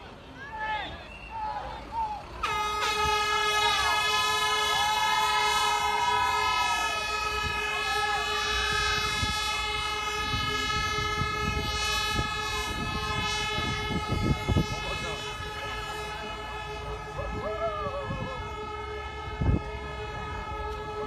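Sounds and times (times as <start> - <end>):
air horn blast: 2.4 - 21.0.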